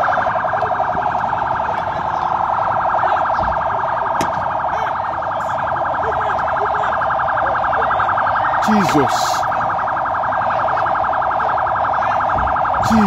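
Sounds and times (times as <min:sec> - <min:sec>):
rapidly pulsing alarm tone: 0:00.0 - 0:13.0.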